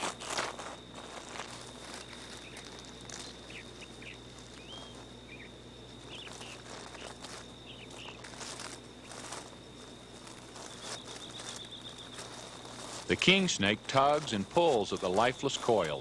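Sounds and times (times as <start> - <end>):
rustles on gravel: 0.0 - 16.0
thin high whine: 0.0 - 16.0
bird chirps: 1.9 - 16.0.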